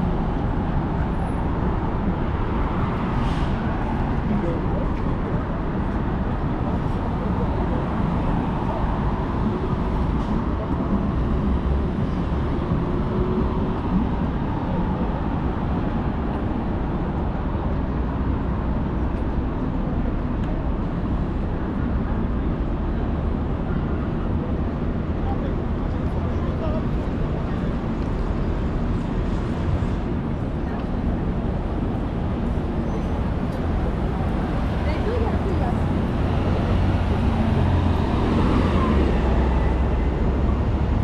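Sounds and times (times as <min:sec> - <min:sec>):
road traffic hum: 0:00.0 - 0:41.0.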